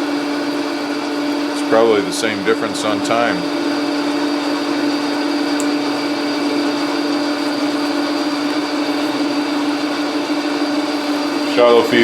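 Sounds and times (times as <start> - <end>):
lathe running: 0.0 - 12.0.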